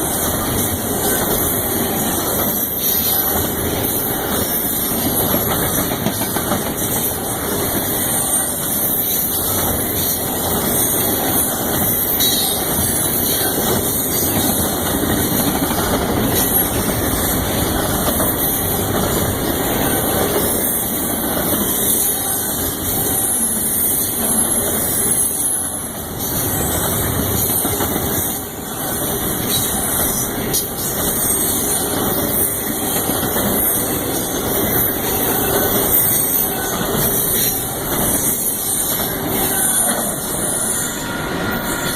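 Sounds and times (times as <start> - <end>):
freight train wheels on rails: 0.0 - 41.9.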